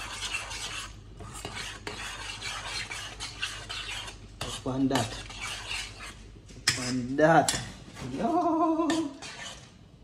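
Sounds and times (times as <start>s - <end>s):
vegetables stirred in steel saucepan: 0.0s - 9.7s.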